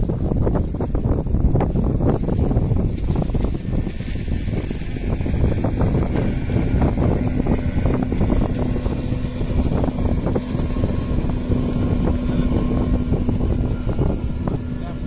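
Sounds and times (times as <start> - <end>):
low engine hum: 0.0 - 15.0
wind buffeting microphone: 0.0 - 15.0.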